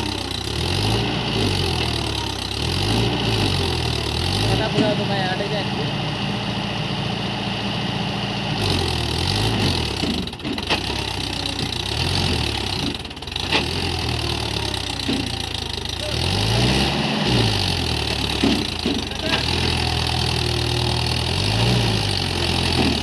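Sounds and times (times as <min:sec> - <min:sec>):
diesel tractor engine revving: 0:00.0 - 0:23.0.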